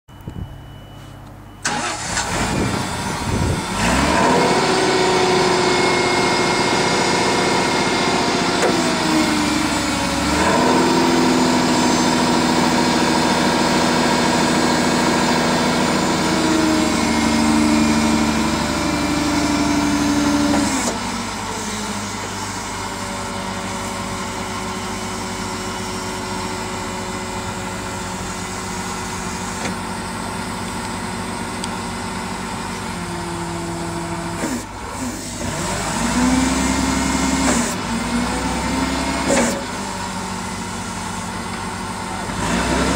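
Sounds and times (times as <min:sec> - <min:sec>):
hydraulic pump whine: 0:00.1 - 0:42.9
forklift engine cranking and running: 0:01.2 - 0:42.9.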